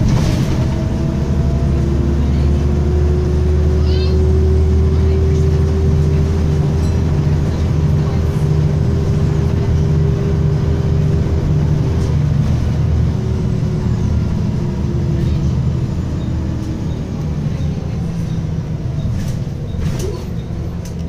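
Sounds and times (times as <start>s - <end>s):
bus engine drone: 0.0s - 21.0s.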